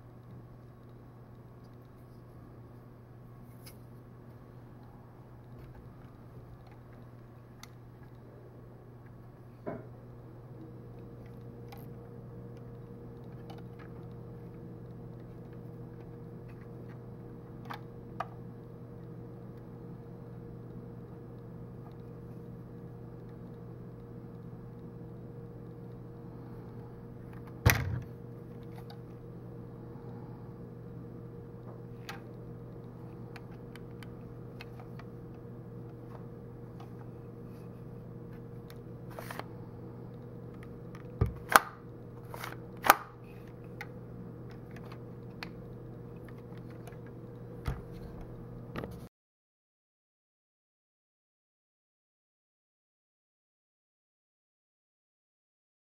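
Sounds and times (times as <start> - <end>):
steady low hum: 0.0 - 49.1.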